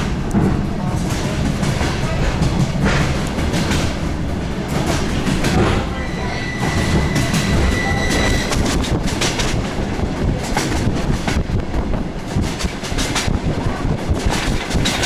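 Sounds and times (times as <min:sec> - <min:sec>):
wheels clicking over rail joints: 0:00.0 - 0:11.5, 0:12.3 - 0:15.0
train rumbling: 0:00.0 - 0:15.0.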